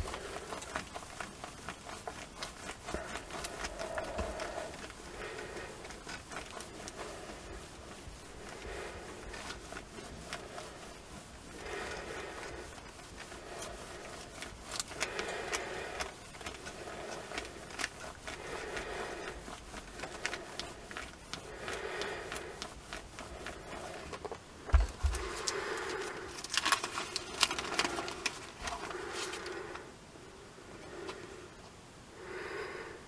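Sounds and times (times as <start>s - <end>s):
paper crinkles and clicks: 0.0s - 29.8s
iron scraping over newspaper: 0.0s - 29.9s.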